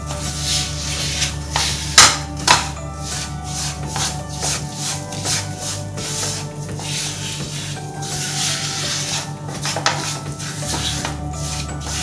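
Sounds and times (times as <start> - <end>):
background music: 0.0 - 12.0
spatula scraping a pan: 0.0 - 12.0.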